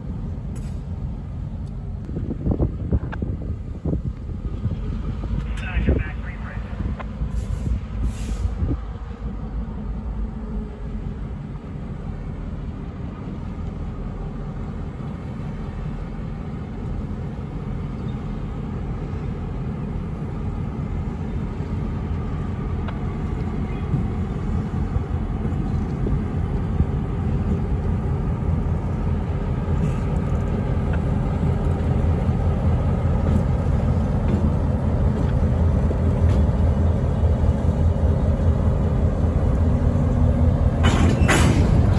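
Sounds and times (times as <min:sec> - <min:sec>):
diesel locomotives rumbling: 0:00.0 - 0:41.9.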